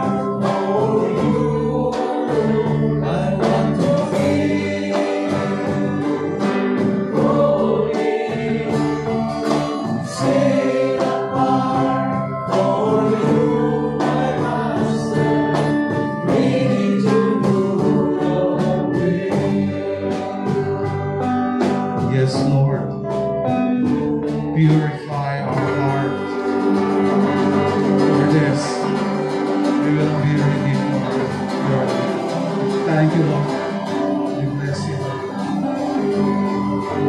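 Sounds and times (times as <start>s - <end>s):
person singing: 0.0s - 21.3s, 21.9s - 37.0s
live gospel band playing: 0.0s - 37.0s.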